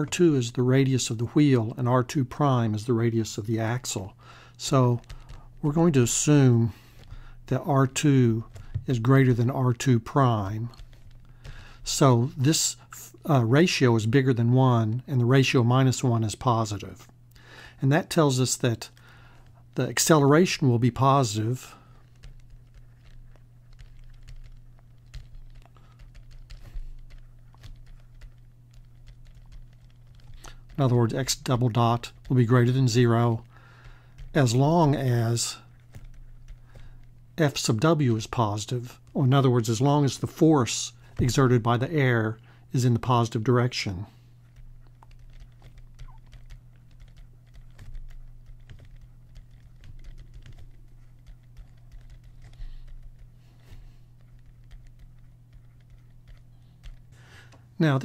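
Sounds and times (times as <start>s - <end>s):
steady low hum: 0.0s - 58.0s
stylus tapping and scratching on screen: 0.0s - 58.0s.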